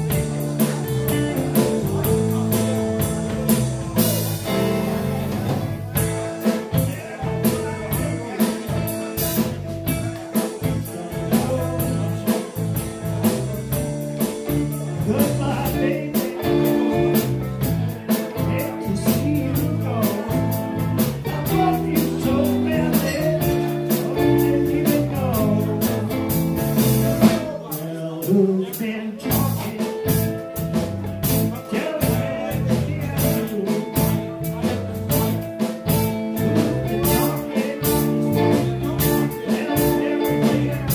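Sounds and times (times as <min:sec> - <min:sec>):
blues band playing: 0:00.0 - 0:40.9
steady drum beat: 0:00.0 - 0:40.9.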